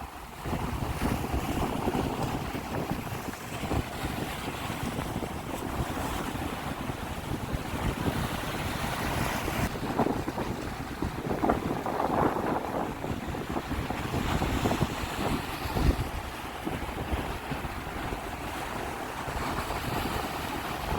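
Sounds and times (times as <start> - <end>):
sea waves splashing: 0.0 - 20.9
wind buffeting microphone: 0.0 - 20.9.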